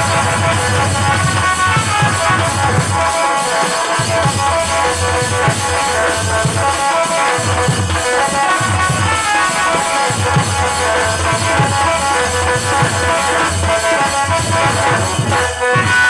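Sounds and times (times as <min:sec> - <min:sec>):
instrumental melody with drum beat: 0:00.0 - 0:16.0.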